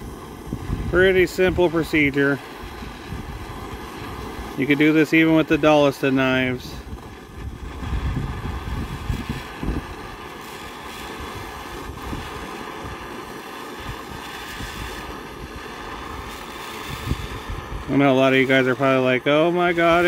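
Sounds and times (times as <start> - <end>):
gas torch hissing: 0.0 - 20.0
wind buffeting microphone: 0.0 - 20.0.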